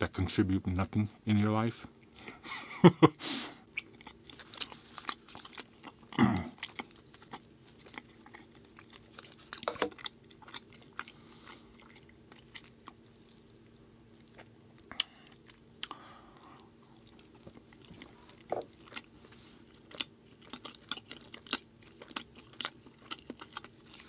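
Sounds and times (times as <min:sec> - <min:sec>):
chewing and crunching cookies: 0:03.6 - 0:24.0.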